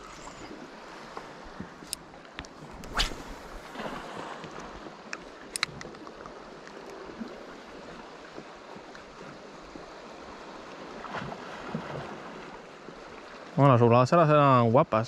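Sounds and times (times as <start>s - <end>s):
water lapping against boat hull: 0.0s - 13.6s.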